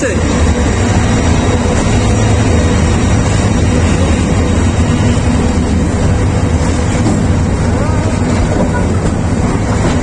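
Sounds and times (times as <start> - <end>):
passenger train low rumble: 0.0 - 10.0.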